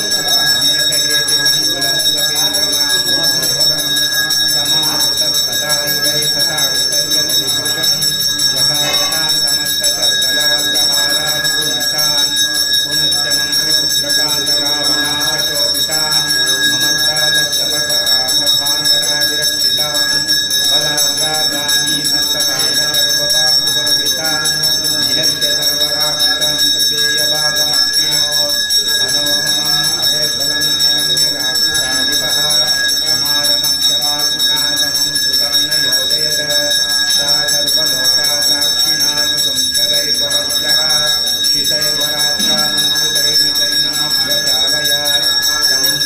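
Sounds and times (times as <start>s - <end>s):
temple bell ringing: 0.0s - 46.0s
voices chanting: 0.0s - 46.0s.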